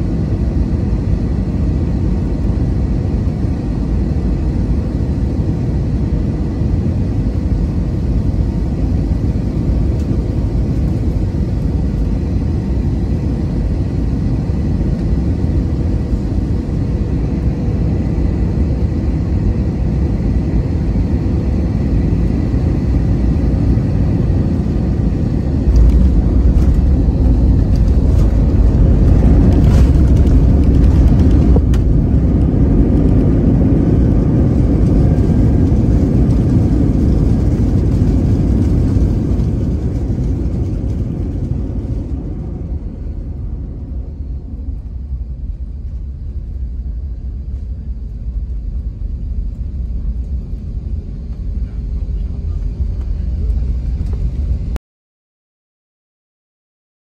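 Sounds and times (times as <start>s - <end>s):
airliner cabin engine rumble: 0.0s - 54.8s
plane rolling on runway: 0.0s - 54.8s.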